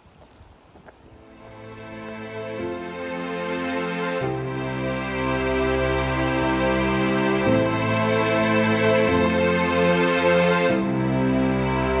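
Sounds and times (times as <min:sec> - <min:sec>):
sustained music chords: 0:01.2 - 0:12.0.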